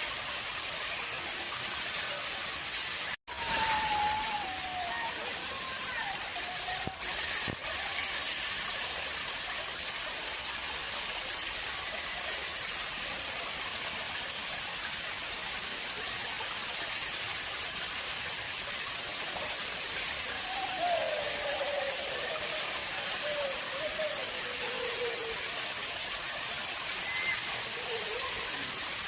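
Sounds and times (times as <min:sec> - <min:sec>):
water splashing into pond: 0:00.0 - 0:29.0.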